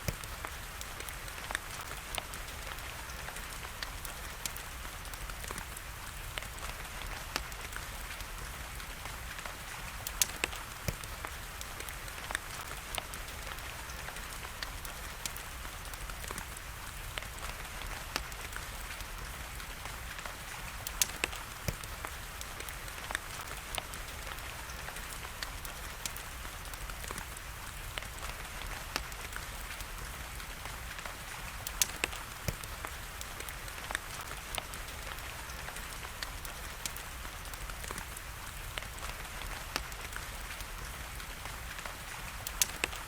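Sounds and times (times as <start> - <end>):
rain hiss: 0.0 - 43.0
wood fire crackling and popping: 0.0 - 43.0.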